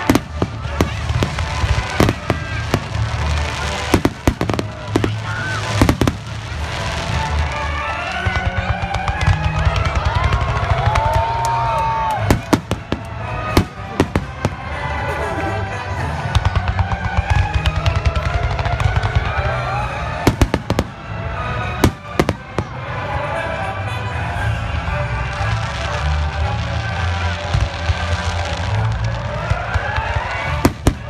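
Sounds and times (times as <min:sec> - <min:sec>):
heavy firework bangs: 0:00.0 - 0:07.6, 0:08.2 - 0:15.0, 0:16.3 - 0:23.1, 0:26.4 - 0:31.0
fireworks crackling: 0:00.0 - 0:23.8, 0:24.5 - 0:31.0
music: 0:00.0 - 0:31.0.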